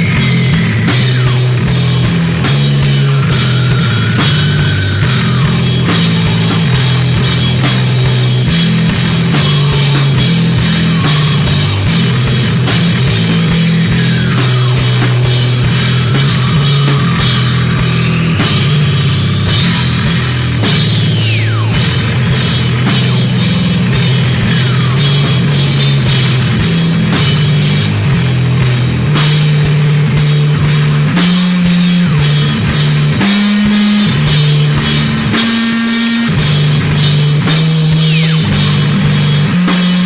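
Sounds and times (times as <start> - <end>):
loud rock music: 0.0 - 40.0.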